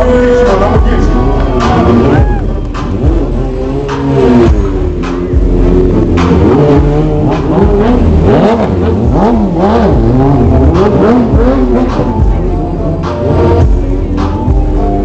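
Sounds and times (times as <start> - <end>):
motorbike engine revving: 0.0 - 14.8.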